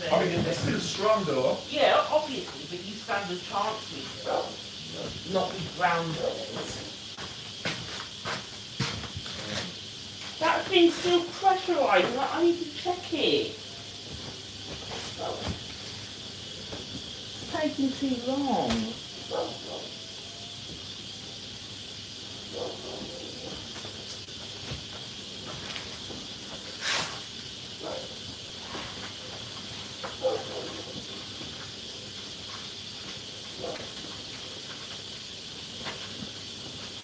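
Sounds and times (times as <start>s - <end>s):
high hiss of venting pressure: 0.0s - 37.0s.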